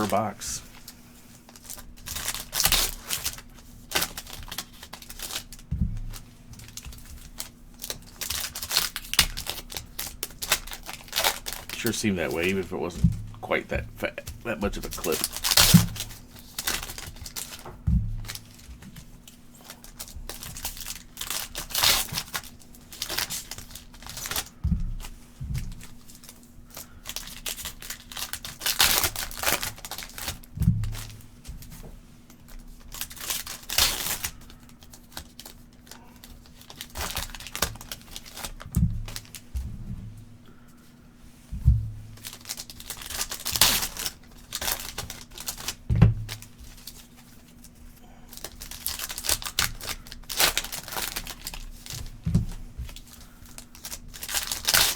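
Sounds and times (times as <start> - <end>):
plastic wrapping crinkling: 0.0 - 31.7, 32.4 - 39.5, 42.1 - 54.9.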